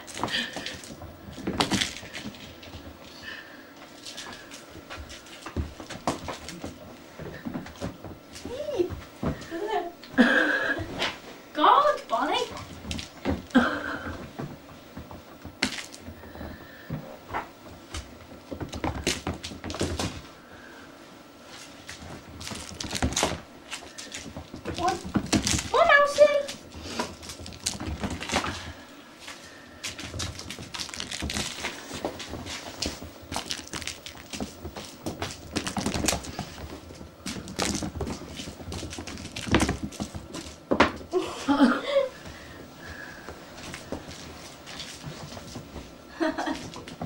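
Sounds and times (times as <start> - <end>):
kittens scampering on carpet: 0.0 - 11.5, 12.4 - 41.2, 42.1 - 47.0.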